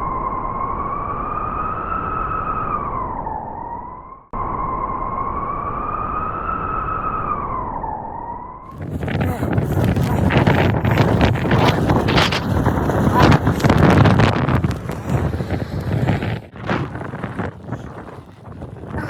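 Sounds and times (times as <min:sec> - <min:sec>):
howling wind: 0:00.2 - 0:19.0.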